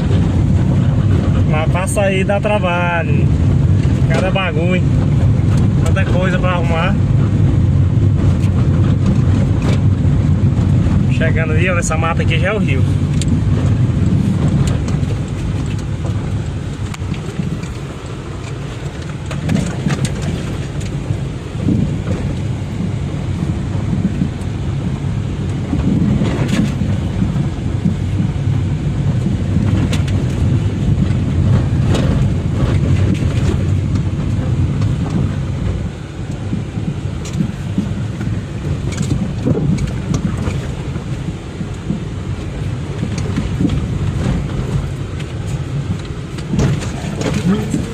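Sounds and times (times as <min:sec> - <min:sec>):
car engine and tyres rumbling: 0:00.0 - 0:47.9
car knocking and rattling over bumps: 0:00.0 - 0:47.9.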